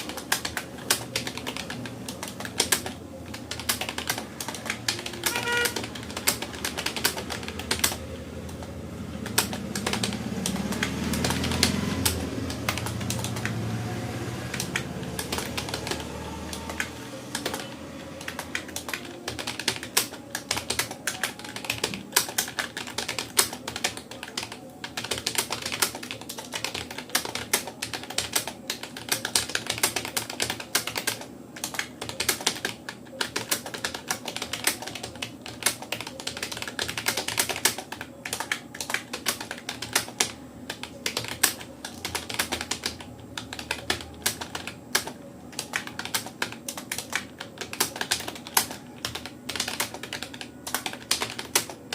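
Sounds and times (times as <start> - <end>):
keyboard typing: 0.0 - 51.9.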